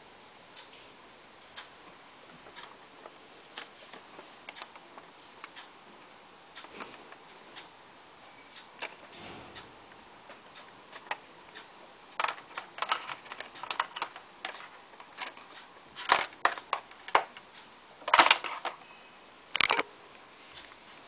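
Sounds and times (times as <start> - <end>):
crackling: 0.6 - 21.0.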